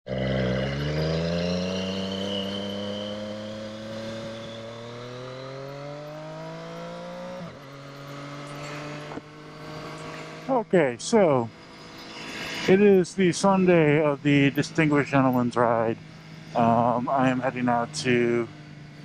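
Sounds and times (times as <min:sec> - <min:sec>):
motorcycle engine accelerating: 0:00.1 - 0:19.0.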